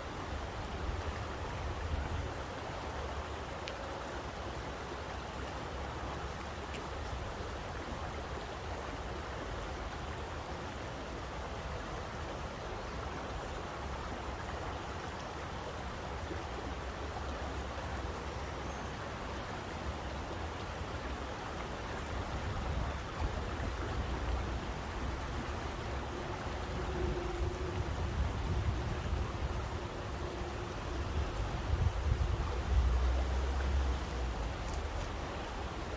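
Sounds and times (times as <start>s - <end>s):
rushing water: 0.0s - 35.9s.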